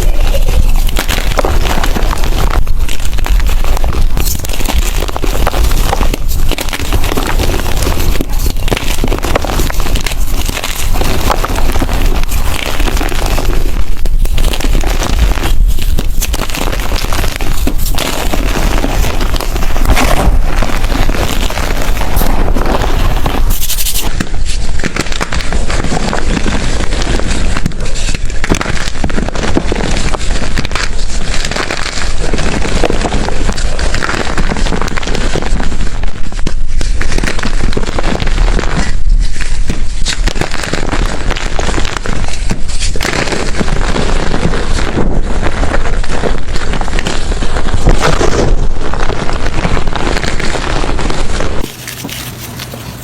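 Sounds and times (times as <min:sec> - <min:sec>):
chalk being crushed by hand: 0:00.0 - 0:53.0.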